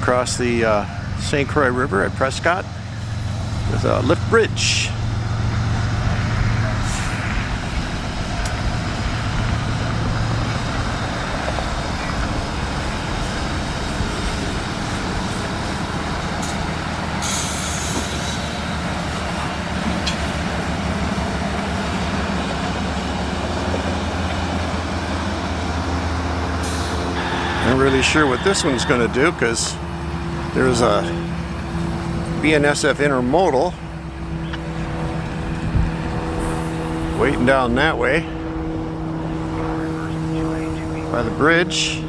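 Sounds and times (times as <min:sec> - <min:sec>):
locomotive engine hum: 0:00.0 - 0:42.0
train cars rumbling on rails: 0:00.0 - 0:42.0.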